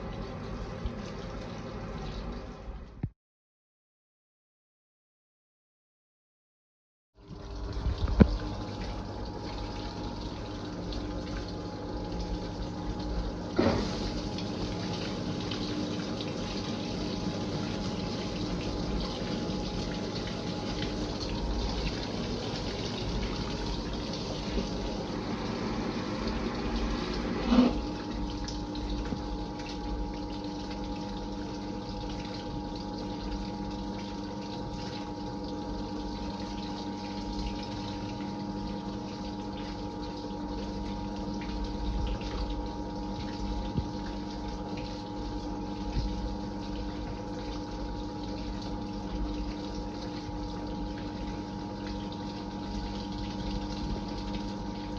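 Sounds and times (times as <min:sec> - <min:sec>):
steady machine hum: 0:00.0 - 0:03.1, 0:07.2 - 0:54.9
washing machine filling with water: 0:00.0 - 0:03.1, 0:07.2 - 0:54.9.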